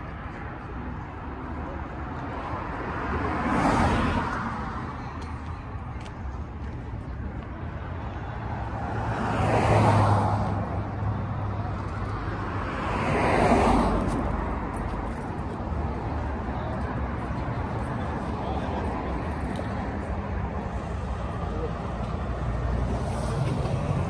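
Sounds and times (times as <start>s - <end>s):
vehicles driving past: 0.0s - 24.0s.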